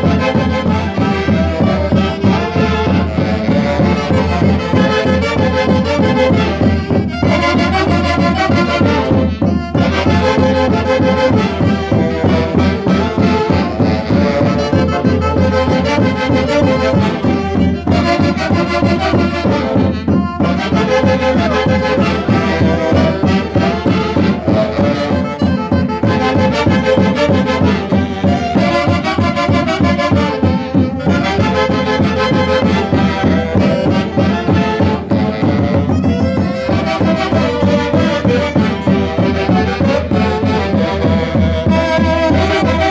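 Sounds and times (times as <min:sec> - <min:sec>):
folk band with wind and brass: 0:00.0 - 0:42.9.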